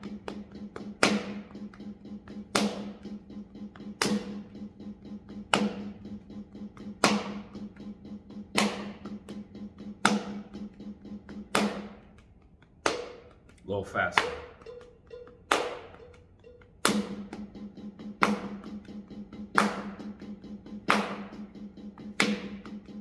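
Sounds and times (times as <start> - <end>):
hands slapping thighs: 0.0 - 4.5, 5.4 - 23.0
steady low hum: 0.0 - 23.0.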